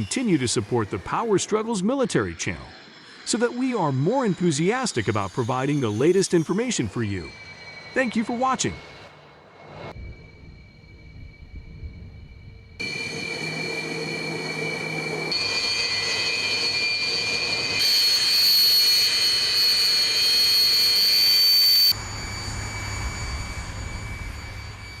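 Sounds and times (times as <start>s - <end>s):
jet engine whine and roar: 0.0s - 25.0s.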